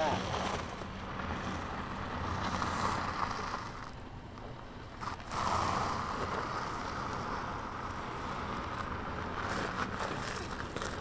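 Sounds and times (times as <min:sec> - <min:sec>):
suv engine running low: 0:00.0 - 0:11.0.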